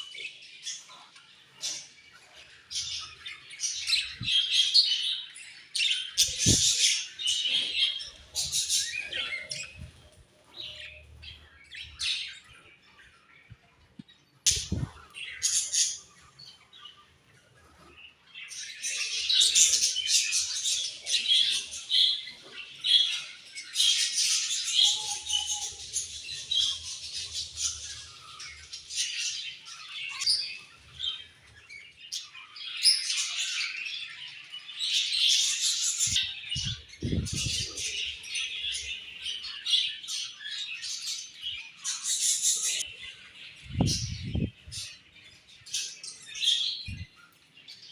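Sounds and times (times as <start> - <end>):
budgerigars chirping and chattering: 0.0 - 47.9.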